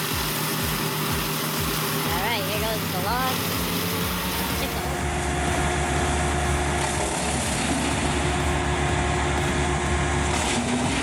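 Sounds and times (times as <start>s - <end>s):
wood chipper running: 0.0s - 11.0s.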